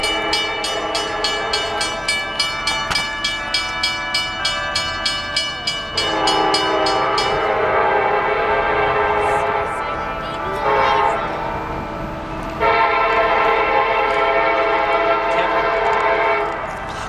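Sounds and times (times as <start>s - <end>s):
crossing warning bell ringing: 0.0s - 17.0s
locomotive air horn: 0.0s - 17.0s.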